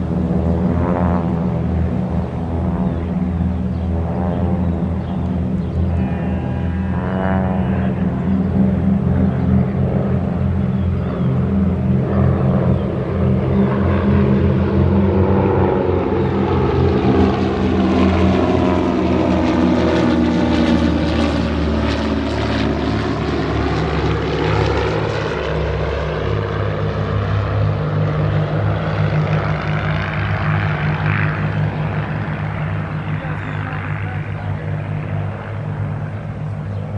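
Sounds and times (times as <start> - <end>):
propeller airplane flying over: 0.0 - 36.9.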